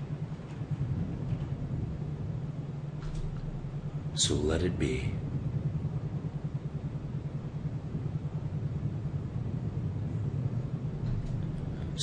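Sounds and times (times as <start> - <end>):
fluttering low rumble: 0.0 - 12.0.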